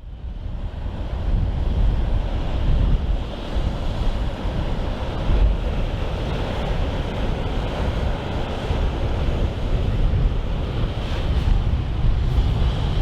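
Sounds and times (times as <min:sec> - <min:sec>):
choppy sea wash: 0:00.0 - 0:13.0
wind buffeting microphone: 0:00.0 - 0:13.0.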